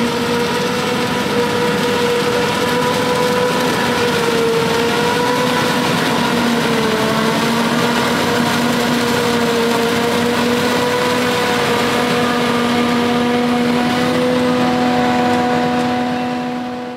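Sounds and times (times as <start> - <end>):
farm machinery engine drone: 0.0 - 16.9.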